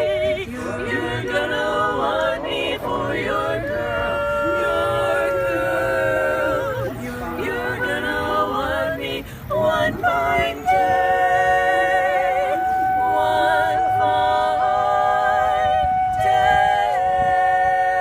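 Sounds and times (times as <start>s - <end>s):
voices singing unaccompanied: 0.0s - 18.0s.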